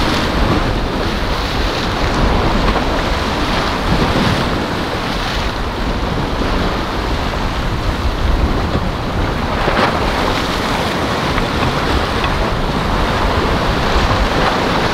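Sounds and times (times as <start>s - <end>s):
waves breaking: 0.0s - 14.9s
wind buffeting microphone: 0.0s - 14.9s.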